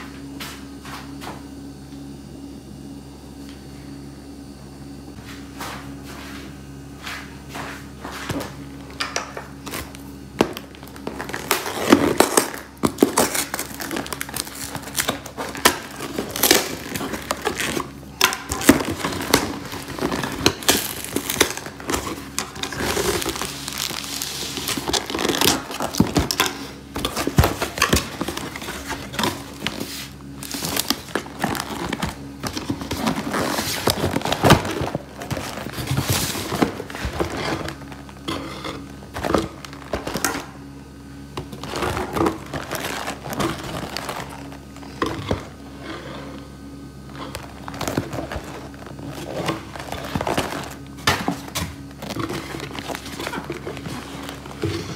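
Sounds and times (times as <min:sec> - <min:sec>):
cardboard tearing and crinkling: 0:09.5 - 0:46.1, 0:47.0 - 0:54.9.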